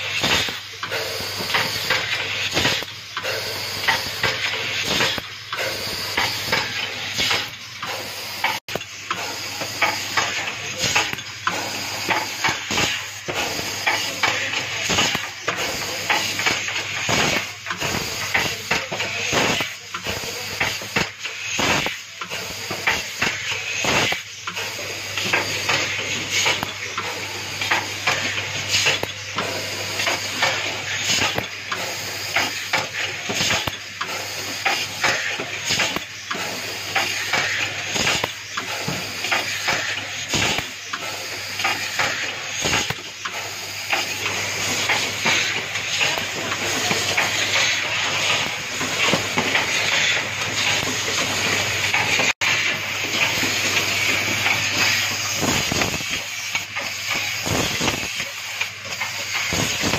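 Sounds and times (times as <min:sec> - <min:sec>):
compressed air hissing: 0:00.0 - 0:59.9
machine clicking and clattering: 0:00.0 - 0:59.9.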